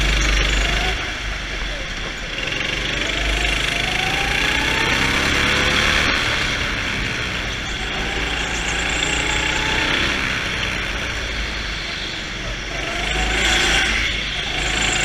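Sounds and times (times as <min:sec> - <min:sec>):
go-kart engine accelerating: 0:00.0 - 0:15.0.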